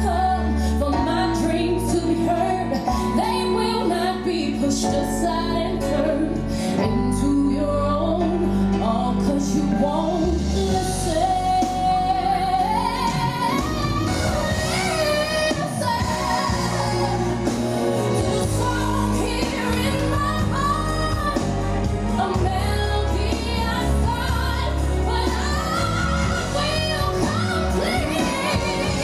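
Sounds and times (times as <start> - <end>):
steady bass line: 0.0 - 29.0
woman singing pop song: 0.0 - 29.0.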